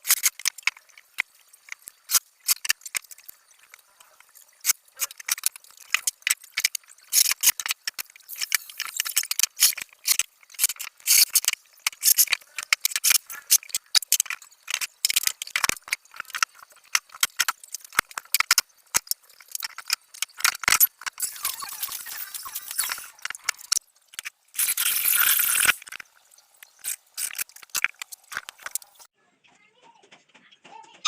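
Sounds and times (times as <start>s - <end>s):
rapid irregular clicking and rattling: 0.0s - 29.1s.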